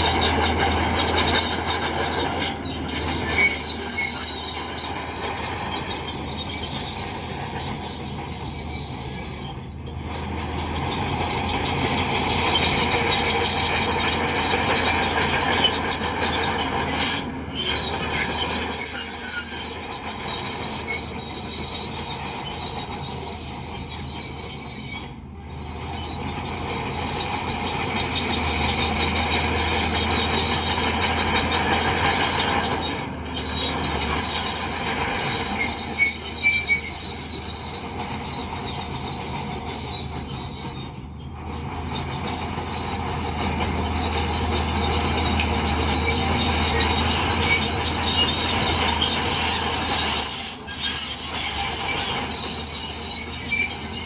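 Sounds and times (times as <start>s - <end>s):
diesel engine running under load: 0.0s - 54.0s
steel tracks squealing and clanking: 0.0s - 54.0s.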